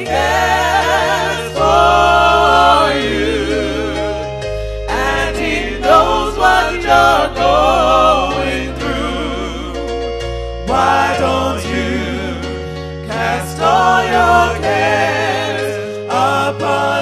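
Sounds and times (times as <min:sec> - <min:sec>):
gospel singing: 0:00.0 - 0:17.0
sustained bass notes: 0:00.0 - 0:17.0.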